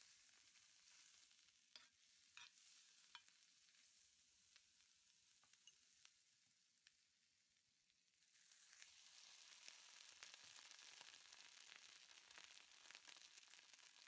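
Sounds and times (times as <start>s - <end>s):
food sizzling on a hot plate: 0.0s - 14.0s.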